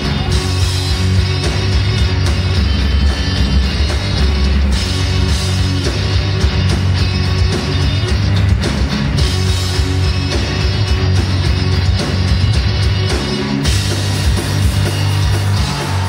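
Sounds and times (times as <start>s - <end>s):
pounding drum kit: 0.0s - 16.0s.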